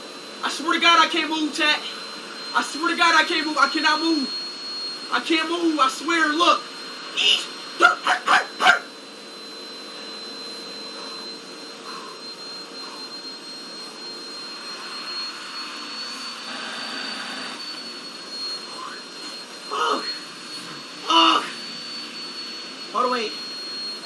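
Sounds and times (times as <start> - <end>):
vacuum cleaner motor whining: 0.0 - 24.0.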